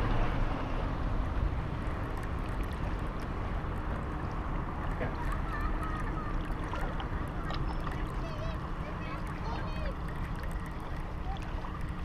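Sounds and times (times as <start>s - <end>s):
water lapping around boat: 0.0s - 12.0s.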